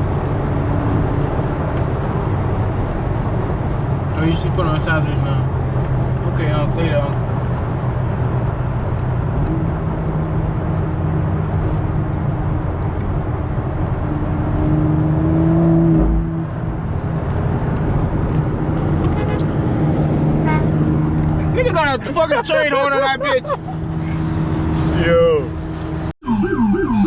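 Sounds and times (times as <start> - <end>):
road noise: 0.0 - 27.0.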